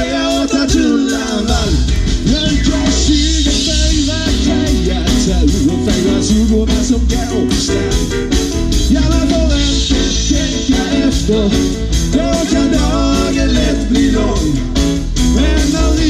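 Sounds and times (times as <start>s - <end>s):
live rock band playing: 0.0s - 16.0s
steady drumbeat: 0.0s - 16.0s.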